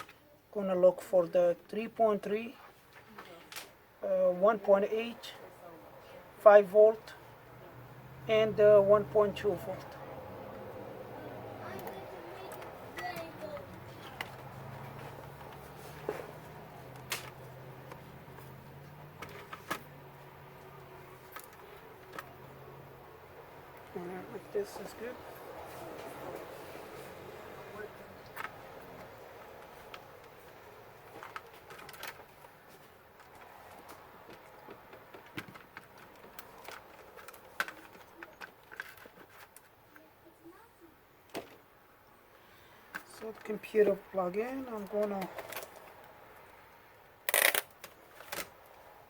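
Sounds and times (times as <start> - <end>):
faint room noise: 0.0 - 49.0.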